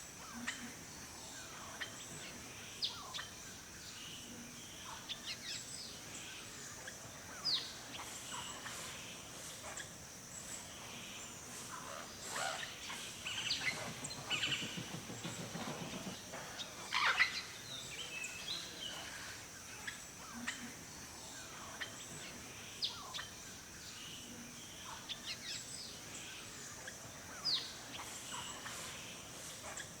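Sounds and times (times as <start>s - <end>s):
steady high hiss: 0.0s - 30.0s
forest birds chirping and whistling: 0.2s - 30.0s.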